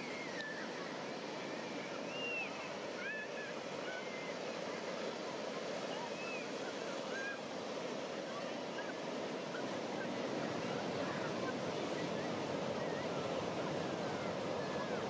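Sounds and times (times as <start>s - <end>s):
surf wash: 0.0s - 15.0s.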